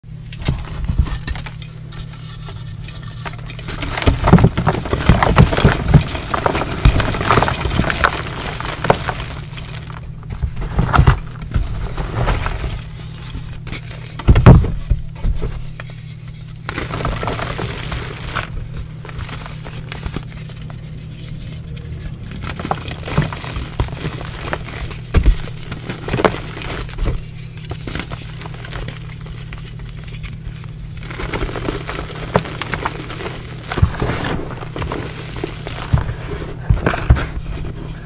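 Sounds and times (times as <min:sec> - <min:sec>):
steady low hum: 0:00.0 - 0:38.0
hands crushing chalk: 0:00.4 - 0:14.8, 0:15.7 - 0:38.0.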